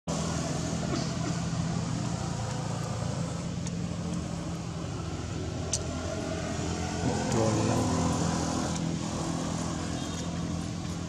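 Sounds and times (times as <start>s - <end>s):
low engine hum: 0.1s - 11.0s.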